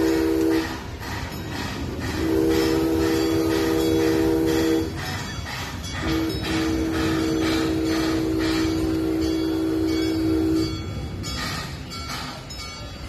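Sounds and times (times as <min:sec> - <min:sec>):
steam locomotive whistle: 0:00.0 - 0:01.0, 0:01.6 - 0:11.0.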